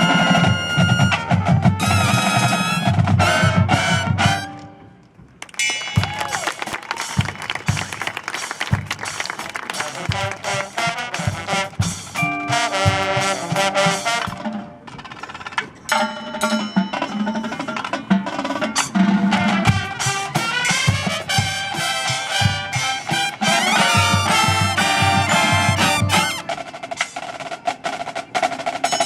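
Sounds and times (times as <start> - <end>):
brass and percussion music: 0.0 - 29.0.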